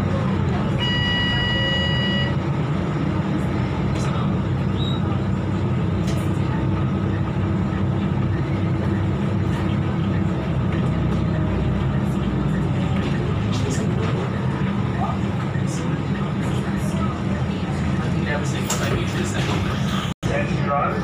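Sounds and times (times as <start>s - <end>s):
bus diesel engine drone: 0.0s - 21.0s
road noise: 0.0s - 21.0s.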